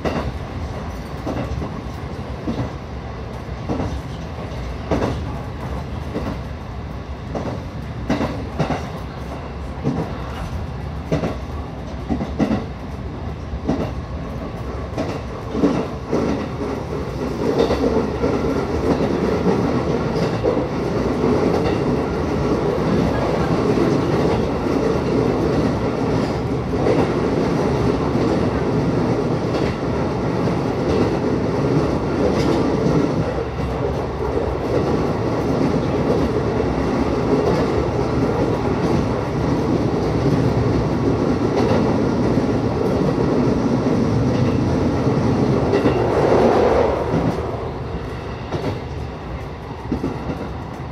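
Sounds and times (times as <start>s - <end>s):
electric train rumble: 0.0s - 50.9s.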